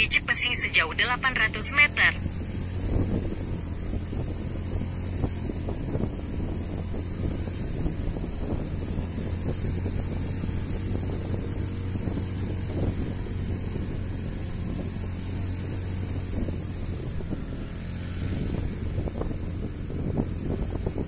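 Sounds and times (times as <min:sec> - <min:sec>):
wind noise on microphone: 0:02.1 - 0:21.0
scooter engine running: 0:02.2 - 0:21.0.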